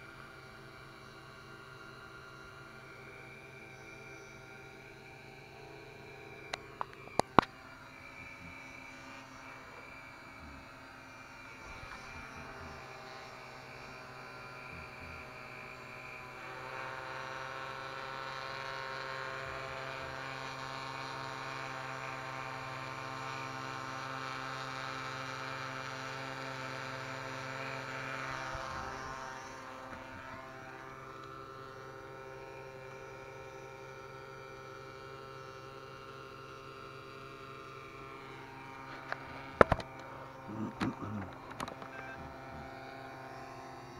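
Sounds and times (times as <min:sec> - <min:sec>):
drone propellers humming: 0:00.0 - 0:43.9.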